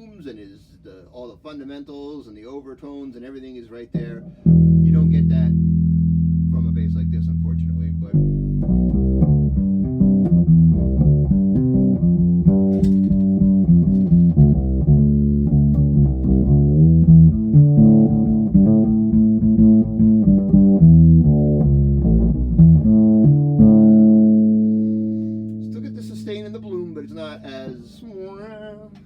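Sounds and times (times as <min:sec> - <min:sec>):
fretless bass plucked notes: 0:04.0 - 0:29.0.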